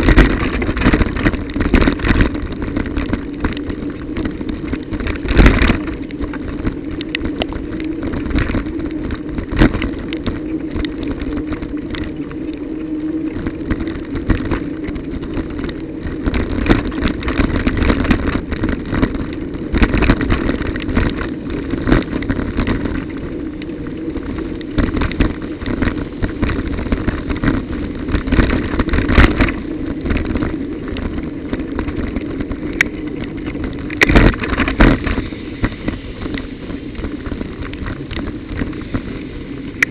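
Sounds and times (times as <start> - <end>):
bicycle rattling over bumps: 0.0 - 39.9
bicycle riding hum and wind: 0.0 - 39.9.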